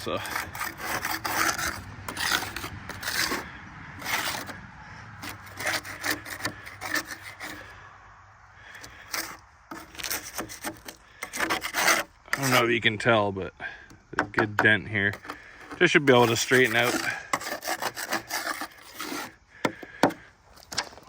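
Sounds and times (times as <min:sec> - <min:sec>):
scraping mud off metal: 0:00.0 - 0:07.8, 0:08.6 - 0:21.0.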